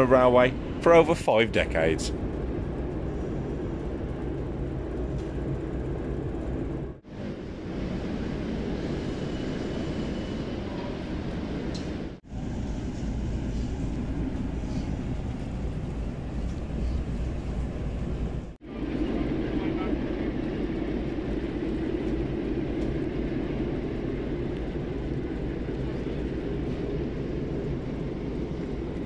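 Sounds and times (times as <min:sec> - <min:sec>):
steam locomotive low rumble: 0:00.0 - 0:29.0.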